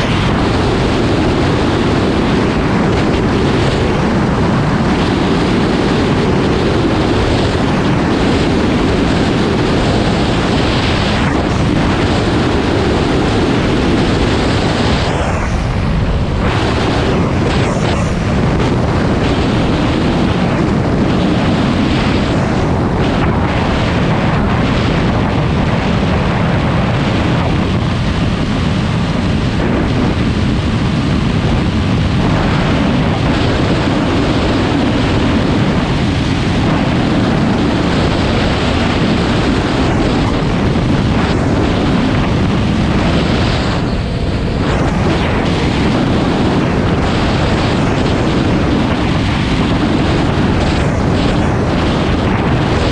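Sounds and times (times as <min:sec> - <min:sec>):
wind on microphone: 0:00.0 - 0:52.9.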